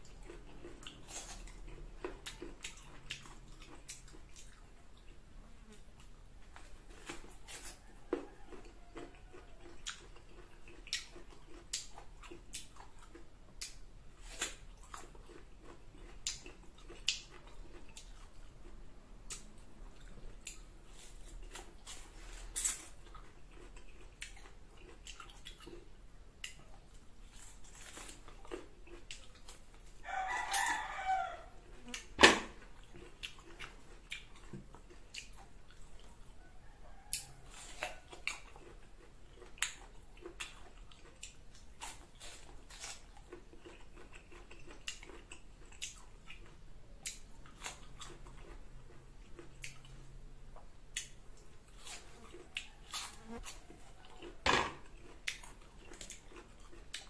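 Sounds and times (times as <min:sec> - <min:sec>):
crunching and chewing: 0:00.0 - 0:57.0.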